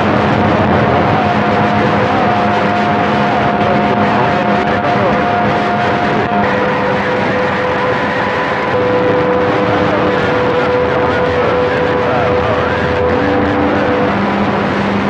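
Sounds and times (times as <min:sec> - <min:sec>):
radio static hiss: 0:00.0 - 0:15.0
whistling radio tones: 0:00.0 - 0:15.0.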